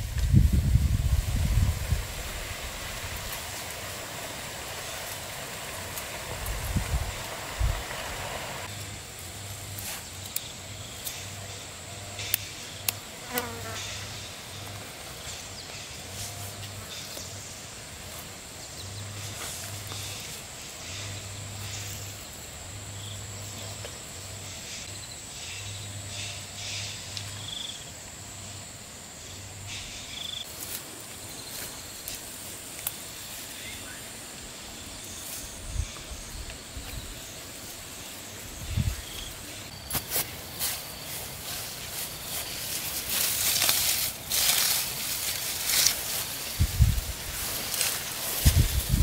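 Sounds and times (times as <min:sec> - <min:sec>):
insects buzzing and trilling: 0:00.0 - 0:49.0.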